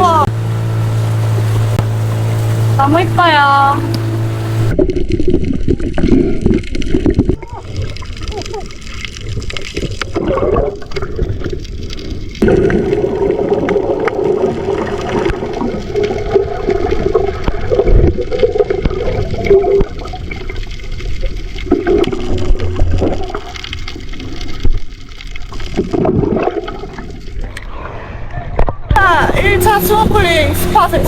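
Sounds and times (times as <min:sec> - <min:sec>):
water sloshing against microphone: 0:00.0 - 0:31.0.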